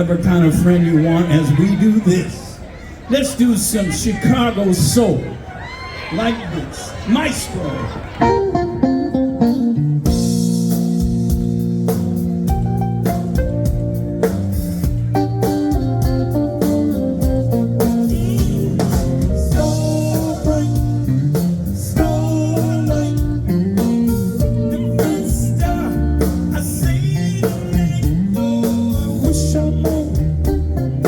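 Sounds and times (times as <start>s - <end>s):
blues band playing: 0.0s - 31.0s.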